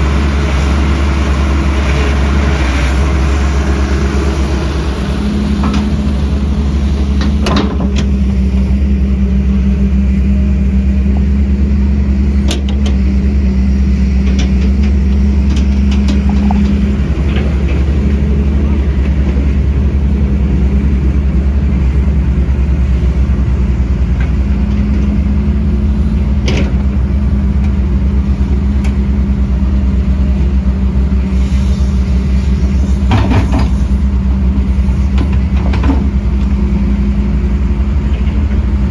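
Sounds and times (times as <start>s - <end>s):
diesel construction machinery running: 0.0s - 38.9s.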